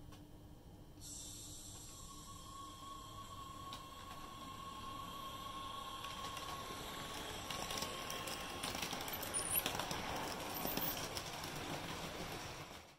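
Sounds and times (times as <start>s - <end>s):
steady hiss: 1.0s - 12.8s
model train whine: 1.0s - 12.9s.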